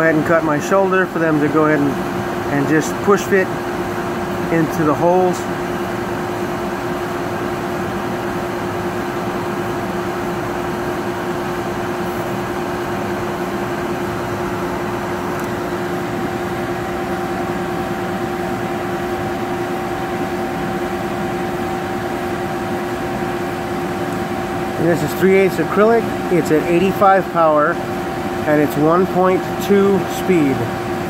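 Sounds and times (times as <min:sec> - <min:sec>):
laser cutter whirring hum: 0:00.0 - 0:31.0.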